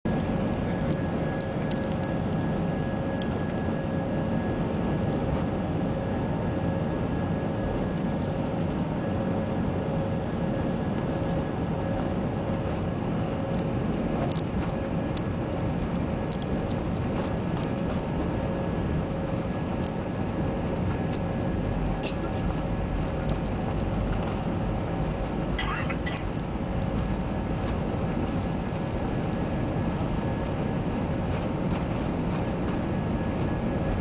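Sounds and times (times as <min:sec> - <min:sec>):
aircraft cabin rumble: 0:00.1 - 0:34.0
steady whine: 0:00.1 - 0:34.0.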